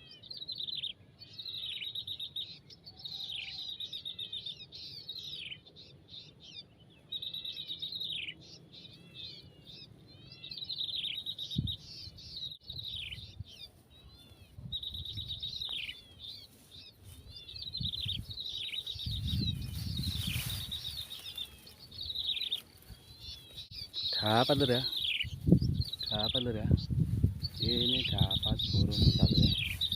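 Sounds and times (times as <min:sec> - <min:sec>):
songbird trilling: 0:00.0 - 0:29.9.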